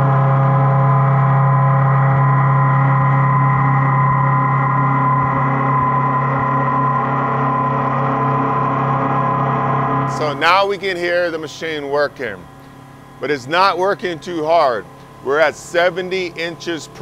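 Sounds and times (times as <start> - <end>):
milling machine cutting hum: 0.0 - 17.0.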